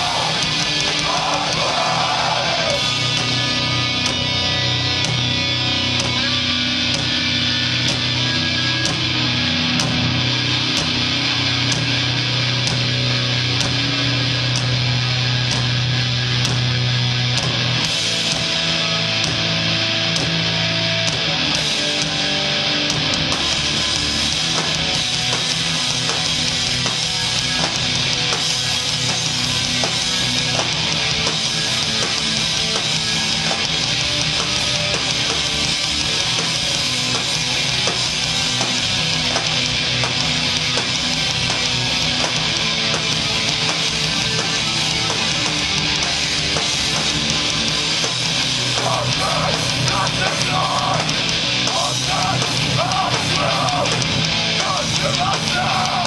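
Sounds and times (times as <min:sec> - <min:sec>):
heavy rock band playing live: 0:00.0 - 0:56.0.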